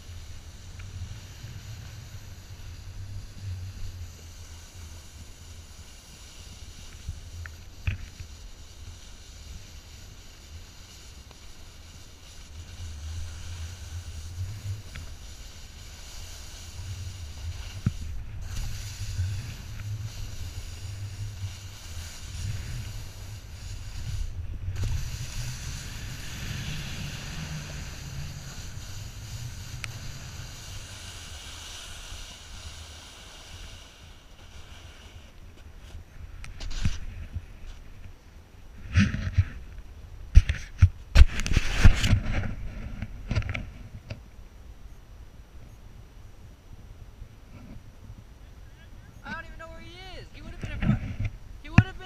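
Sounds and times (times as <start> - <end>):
snowboard sliding on snow: 0.0 - 38.0, 41.1 - 44.0, 49.2 - 52.0.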